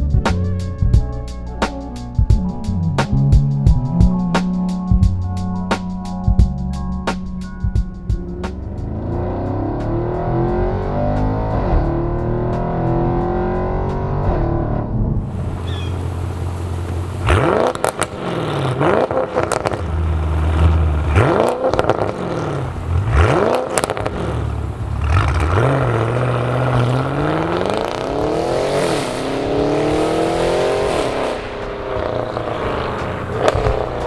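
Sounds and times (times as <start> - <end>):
car engine revving: 0.0 - 34.0
exhaust cracks: 0.4 - 34.0.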